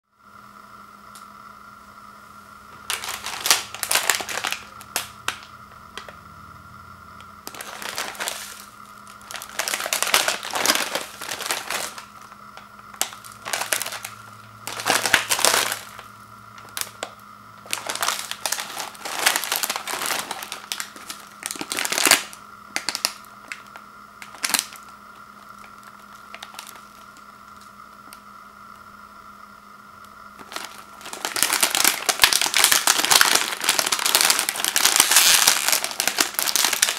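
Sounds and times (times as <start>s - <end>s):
plastic wrapper crinkling: 2.8s - 6.2s, 7.4s - 28.2s, 30.4s - 36.9s.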